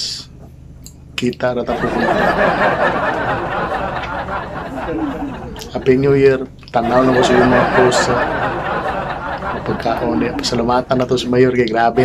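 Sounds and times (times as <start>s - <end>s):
muffled chatter and chuckling: 1.7s - 12.0s.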